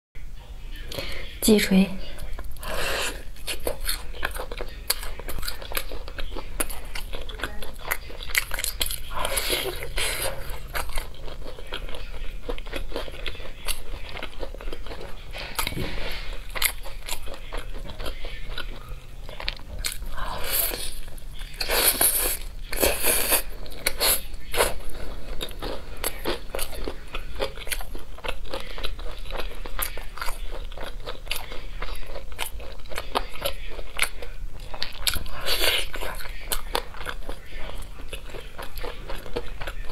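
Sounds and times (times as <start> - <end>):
chewing: 2.1 - 39.9.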